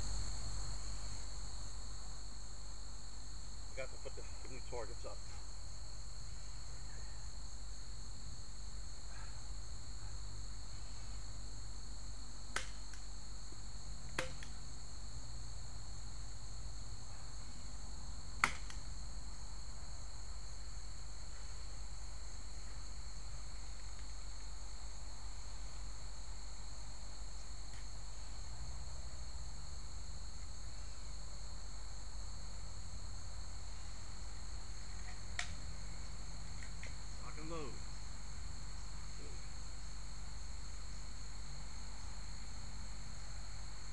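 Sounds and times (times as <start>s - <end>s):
crickets chirping: 0.0s - 43.9s
low steady hum: 0.0s - 43.9s.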